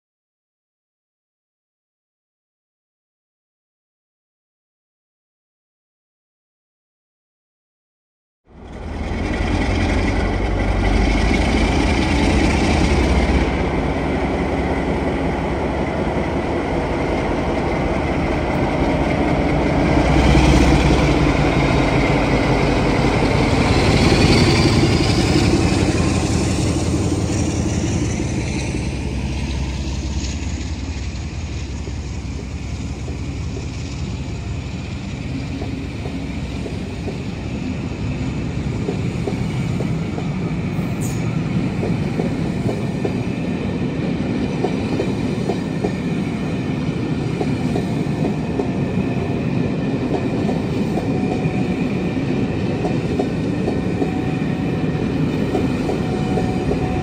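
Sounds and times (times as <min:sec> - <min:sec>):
diesel locomotive engine: 0:08.5 - 0:57.0.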